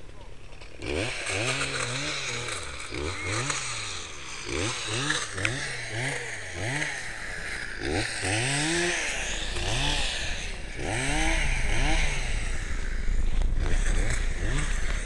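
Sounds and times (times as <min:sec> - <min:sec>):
chainsaw engine revving: 0:00.1 - 0:15.0.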